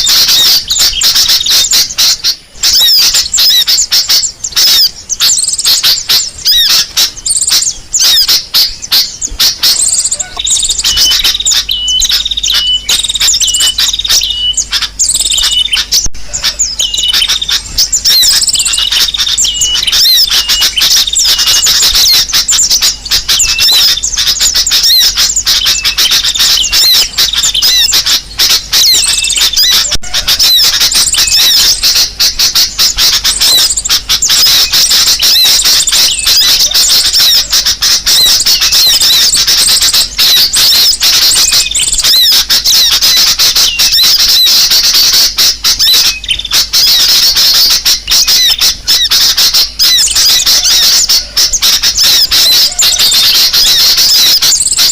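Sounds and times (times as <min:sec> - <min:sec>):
birds chirping and trilling: 0:00.0 - 0:54.9.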